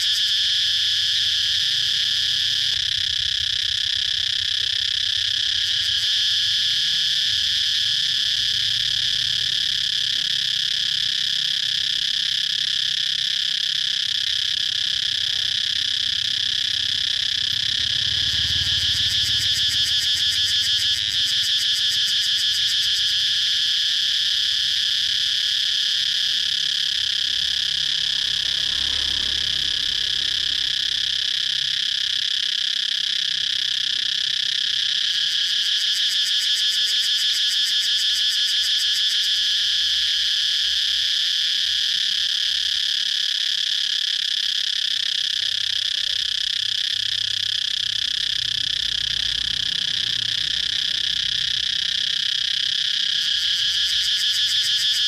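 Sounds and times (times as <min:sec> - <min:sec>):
cicada buzzing: 0:00.0 - 0:55.0.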